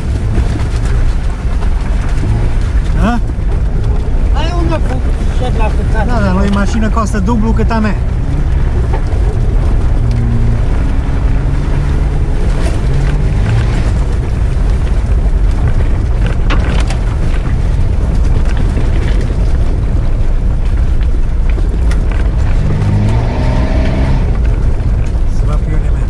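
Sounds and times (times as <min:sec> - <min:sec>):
knocks and rattles over bumps: 0:00.0 - 0:26.0
vehicle engine running at low revs: 0:00.0 - 0:26.0.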